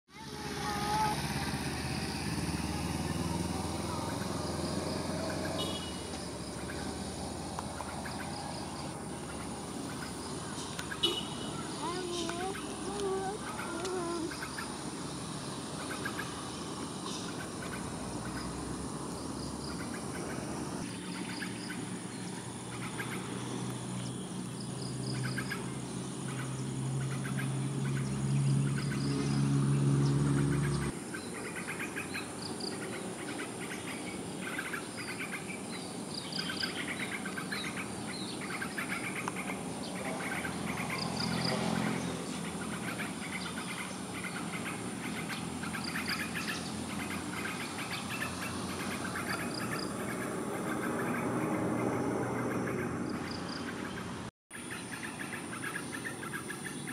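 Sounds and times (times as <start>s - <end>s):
birds chirping: 0.1s - 56.9s.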